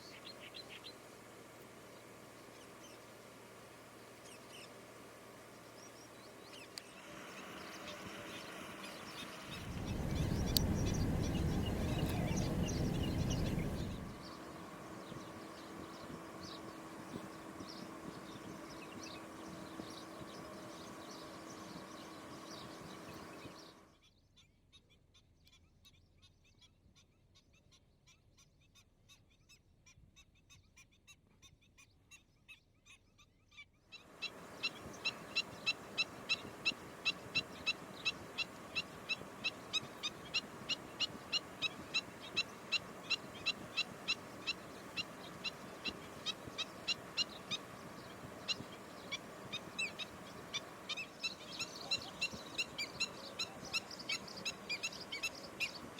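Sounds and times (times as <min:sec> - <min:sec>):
background hiss: 0:00.0 - 0:23.7, 0:34.1 - 0:55.9.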